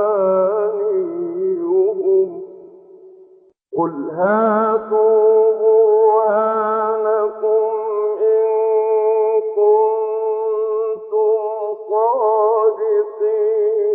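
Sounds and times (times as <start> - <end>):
person chanting melodically: 0.0 - 3.2, 3.8 - 13.9.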